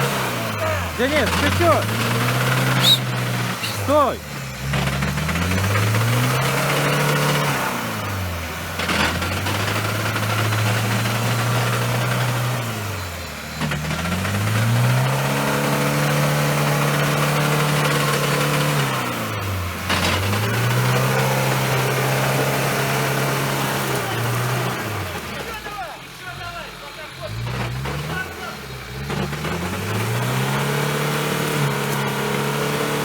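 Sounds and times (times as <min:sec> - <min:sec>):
off-road engine revving: 0:00.0 - 0:33.0.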